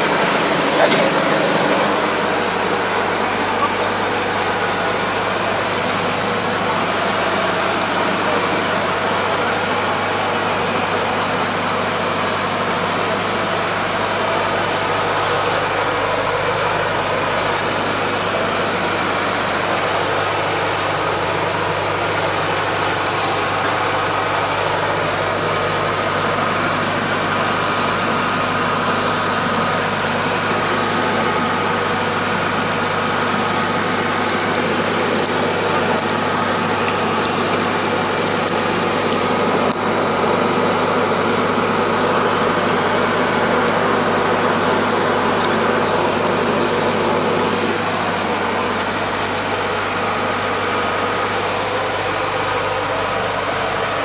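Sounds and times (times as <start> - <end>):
diesel engine hum: 0.0 - 54.0
harvester machinery whirring: 0.0 - 54.0.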